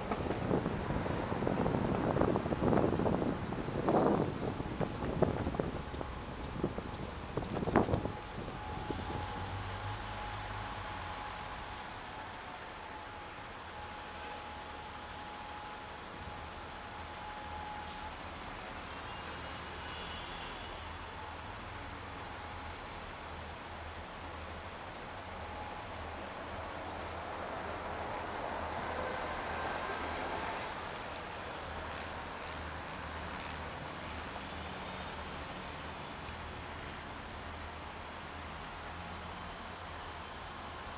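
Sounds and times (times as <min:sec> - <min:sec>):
bus engine hum: 0:00.0 - 0:40.9
road noise: 0:00.0 - 0:40.9.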